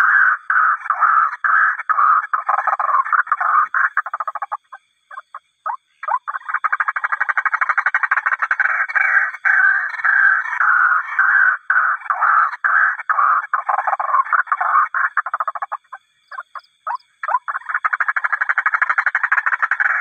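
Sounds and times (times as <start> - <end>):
bird harsh repeated calls: 0.0 - 20.0.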